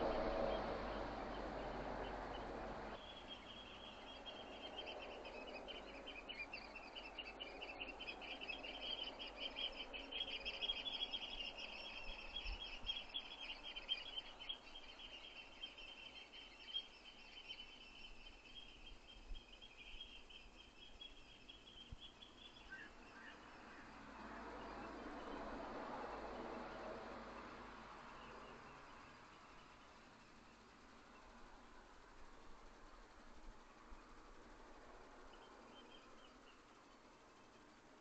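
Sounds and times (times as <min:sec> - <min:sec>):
faint outdoor background noise: 0:00.0 - 0:38.0
songbirds trilling: 0:00.0 - 0:38.0.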